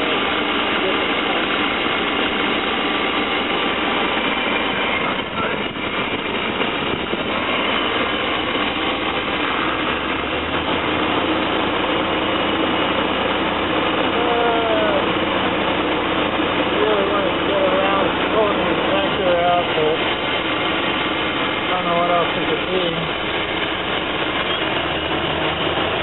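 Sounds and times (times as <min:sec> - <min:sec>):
van engine idling: 0:00.0 - 0:26.0.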